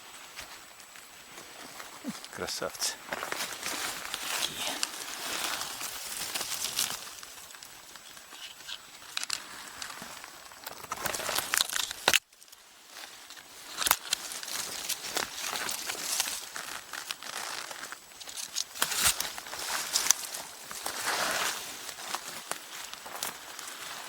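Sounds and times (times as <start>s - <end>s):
dry leaves rustling and crackling: 0.1s - 24.0s
twigs snapping: 2.2s - 12.6s, 13.3s - 23.8s.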